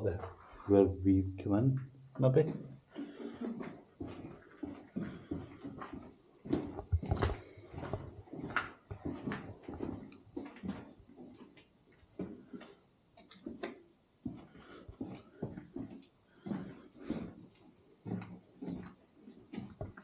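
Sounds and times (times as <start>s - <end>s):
scuffing footsteps on hard floor: 2.2s - 12.7s, 13.4s - 20.0s.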